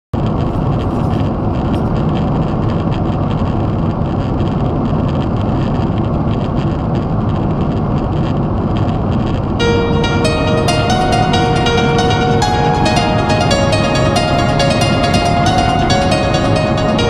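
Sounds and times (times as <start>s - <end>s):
jet engine and airflow rushing: 0.2s - 17.0s.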